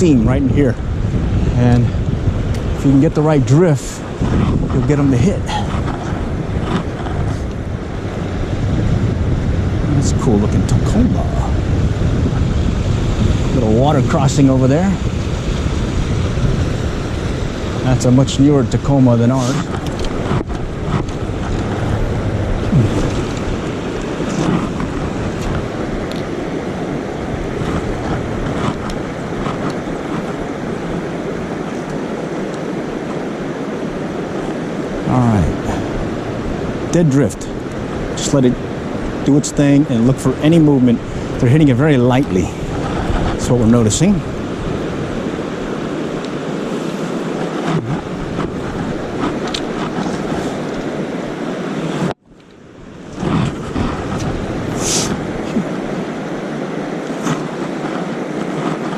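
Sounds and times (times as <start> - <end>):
river water rushing: 0.0 - 58.9
wind buffeting microphone: 0.0 - 58.9.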